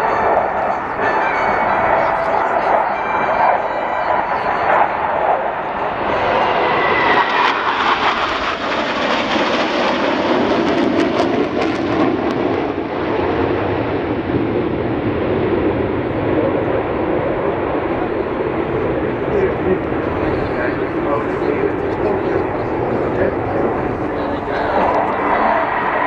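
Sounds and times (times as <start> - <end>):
jets flying overhead: 0.0 - 26.0.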